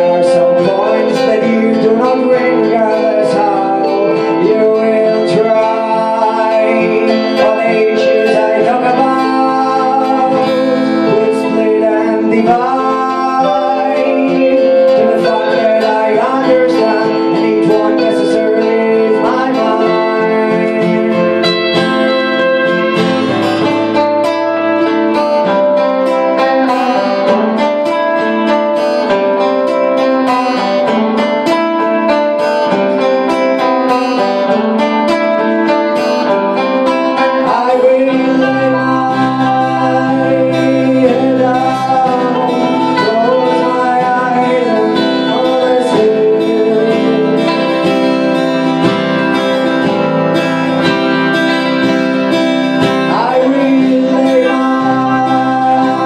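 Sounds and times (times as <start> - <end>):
acoustic and electric guitars: 0.0 - 56.0
man singing: 0.0 - 56.0.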